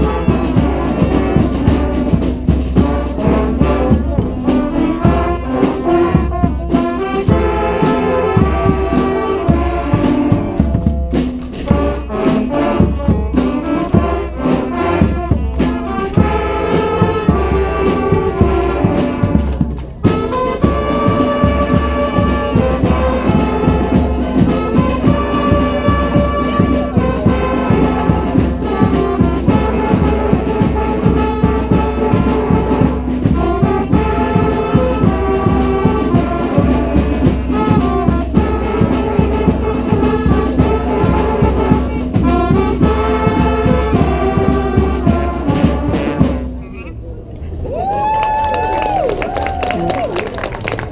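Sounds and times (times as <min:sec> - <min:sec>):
brass band playing cumbia: 0:00.0 - 0:47.0.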